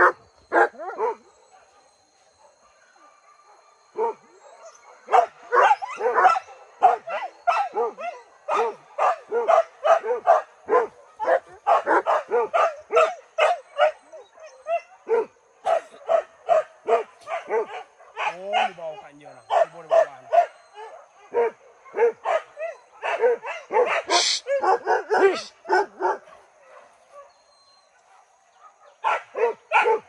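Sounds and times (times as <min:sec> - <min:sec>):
hunting dogs barking and yelping: 0:00.0 - 0:30.0.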